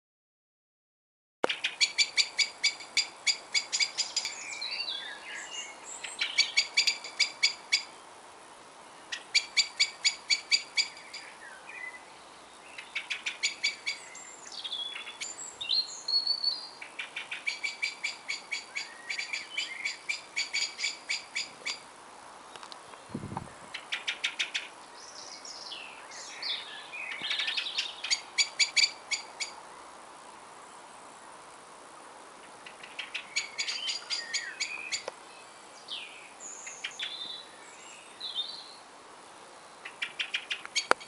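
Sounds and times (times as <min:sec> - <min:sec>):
songbird singing: 0:01.4 - 0:31.7, 0:32.3 - 0:41.0.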